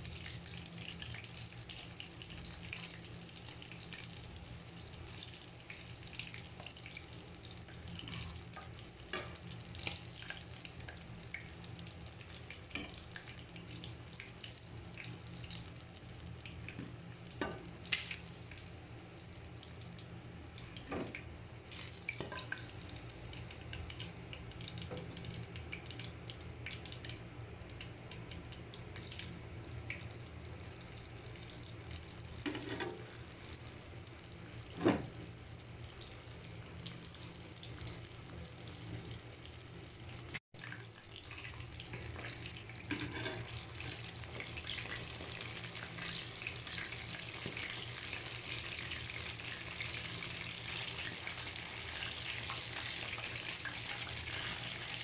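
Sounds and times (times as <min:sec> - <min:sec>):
chicken frying in oil: 0:00.0 - 0:55.0.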